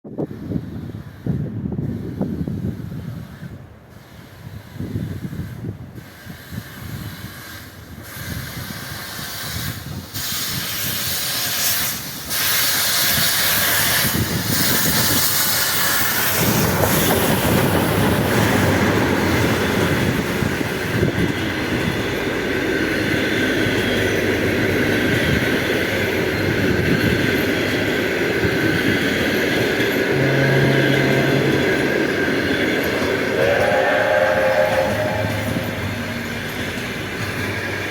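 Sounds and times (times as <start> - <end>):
steam locomotive hauling train: 0.1 - 37.9.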